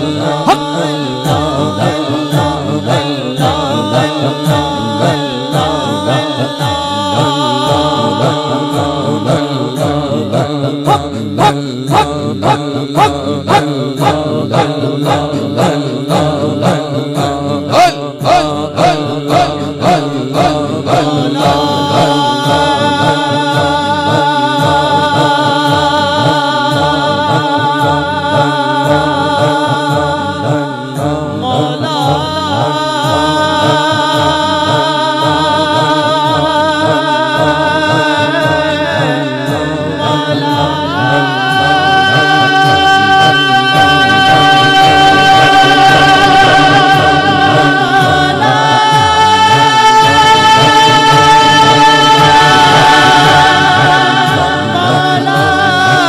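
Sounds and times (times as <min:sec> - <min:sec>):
beat: 0:00.0 - 0:56.0
devotional chanting and singing: 0:00.0 - 0:56.0.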